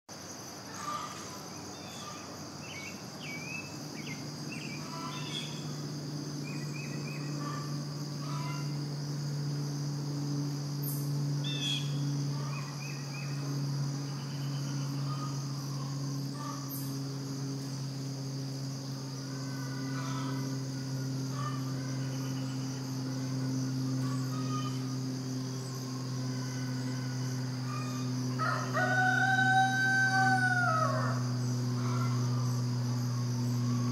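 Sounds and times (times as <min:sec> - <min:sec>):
insect chorus: 0:00.1 - 0:33.9
low steady hum: 0:00.1 - 0:33.9.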